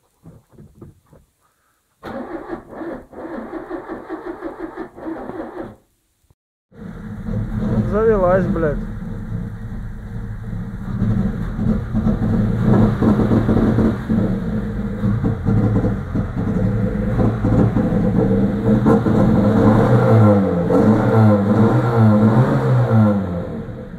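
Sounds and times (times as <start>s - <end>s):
car engine misfiring: 2.0s - 5.9s, 6.7s - 23.9s.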